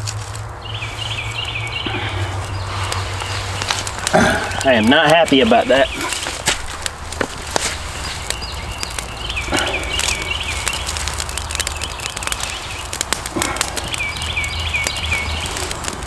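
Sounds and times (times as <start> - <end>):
campfire crackling and popping: 0.0 - 16.0
bird chirping: 0.6 - 15.9.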